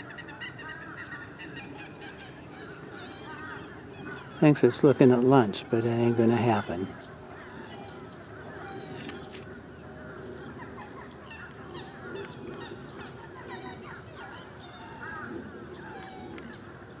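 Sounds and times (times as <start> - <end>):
birds squawking and chirping: 0.0 - 17.0.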